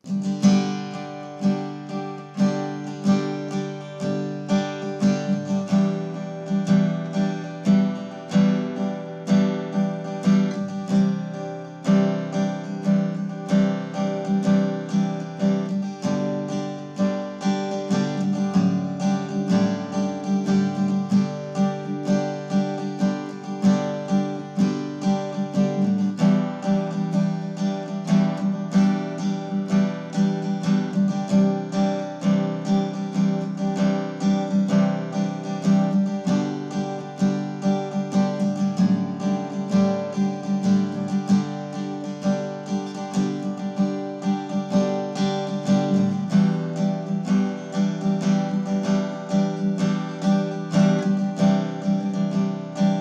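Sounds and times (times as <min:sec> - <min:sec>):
acoustic guitar picked notes: 0:00.0 - 0:53.0.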